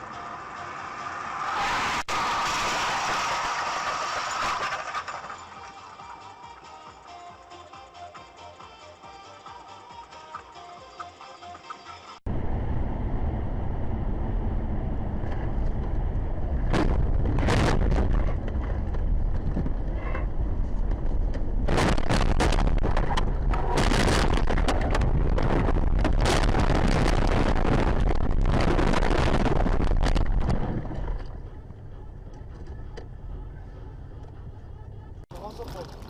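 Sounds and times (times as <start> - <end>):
road and wind noise: 0.0 - 6.6, 11.1 - 36.0.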